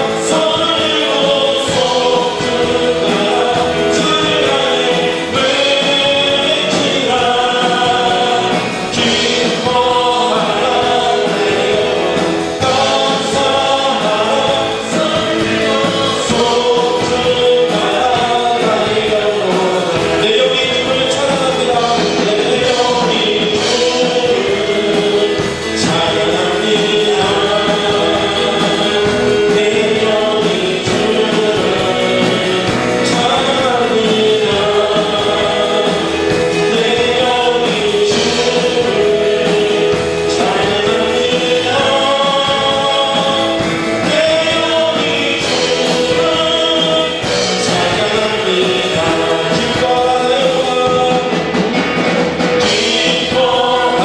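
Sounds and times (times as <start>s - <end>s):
band accompaniment: 0.0s - 54.0s
congregation singing: 0.0s - 54.0s.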